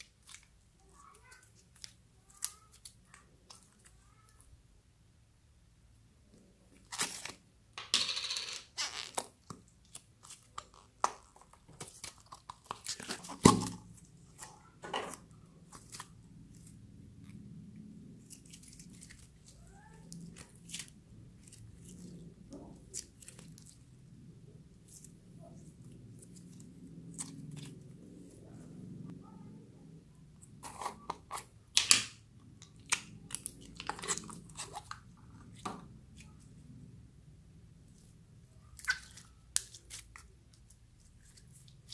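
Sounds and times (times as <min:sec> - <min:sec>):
slime squishing: 0:00.0 - 0:04.4, 0:08.8 - 0:28.8, 0:30.4 - 0:41.9.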